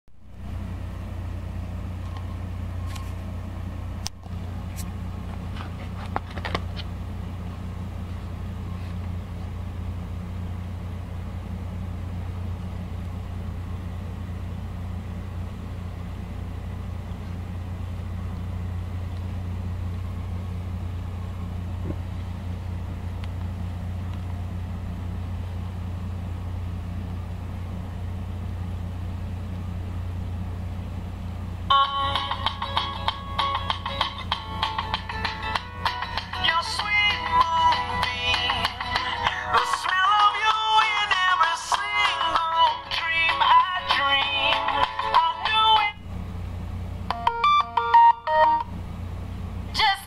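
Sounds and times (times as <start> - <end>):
steady low hum: 0.2 - 50.0.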